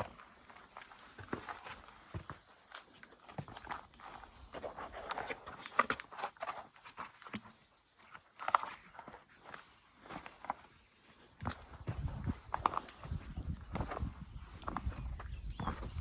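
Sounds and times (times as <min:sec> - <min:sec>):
footsteps on rocky ground: 0:00.0 - 0:16.0.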